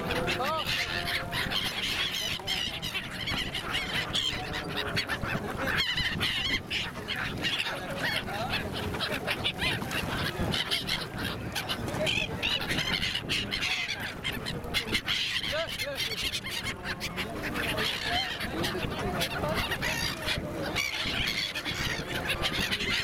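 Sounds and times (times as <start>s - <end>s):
flock of gulls calling: 0.0s - 23.0s.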